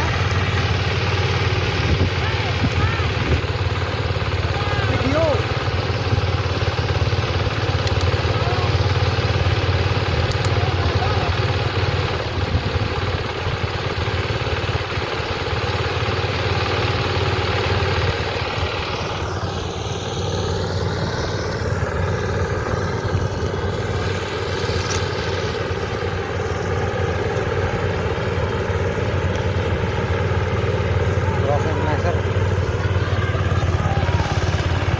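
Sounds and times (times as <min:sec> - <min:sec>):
harvester engine droning: 0:00.0 - 0:34.9.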